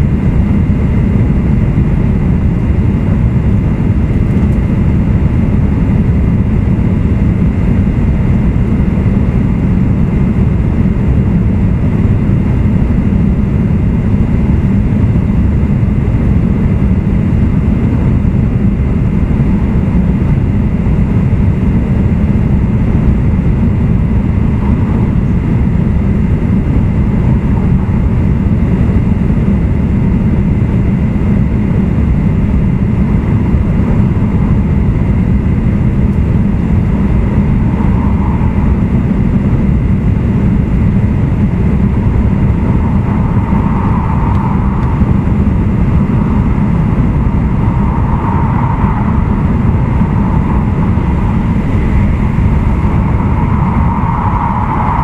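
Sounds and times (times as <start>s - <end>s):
faint high hum: 0.0s - 55.0s
train wheels rumbling on rail: 0.0s - 55.0s.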